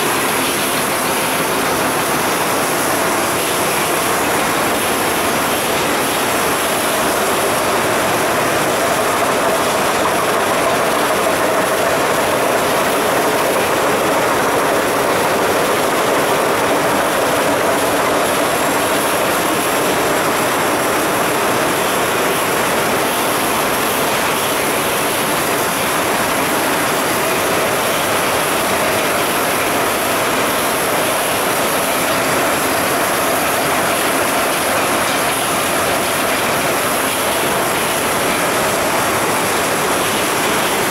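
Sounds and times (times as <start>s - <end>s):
machinery noise: 0.0s - 40.9s.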